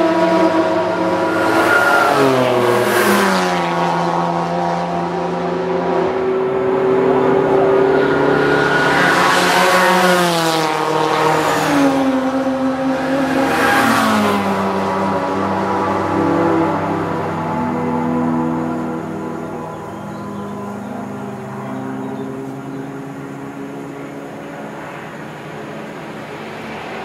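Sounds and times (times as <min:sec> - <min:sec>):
racing cars passing by: 0:00.0 - 0:27.0.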